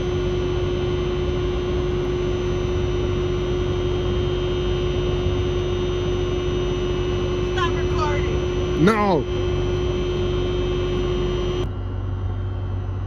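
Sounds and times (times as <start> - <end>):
steady hum with rumble and hiss: 0.0 - 13.0.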